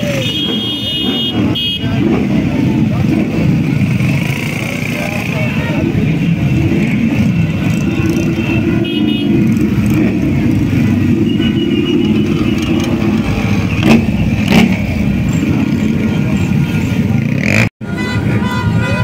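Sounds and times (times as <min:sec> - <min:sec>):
motorcycle engines passing: 0:00.0 - 0:19.0.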